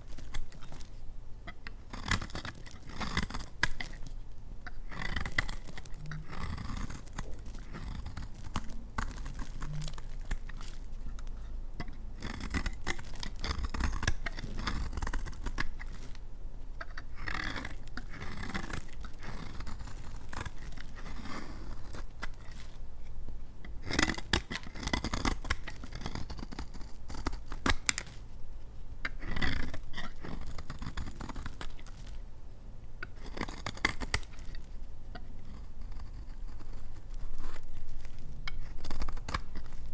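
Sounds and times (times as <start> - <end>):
knife scraping dry soap: 0.0 - 39.9.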